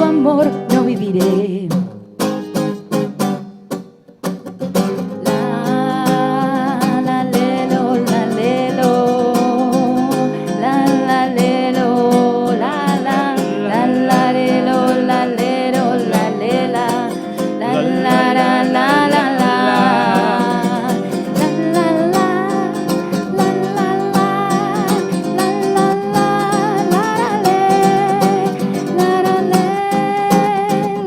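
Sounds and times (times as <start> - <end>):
acoustic guitars playing bolero: 0.0 - 31.0.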